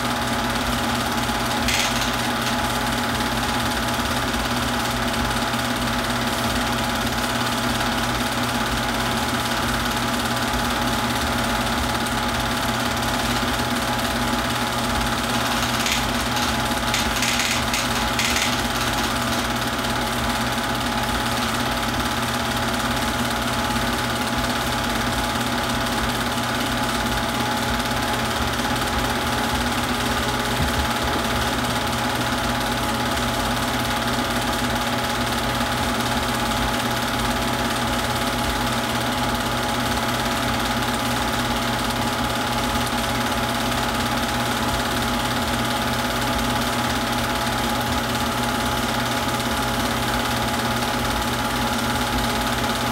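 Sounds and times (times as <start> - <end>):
film projector motor whirring: 0.0 - 52.9.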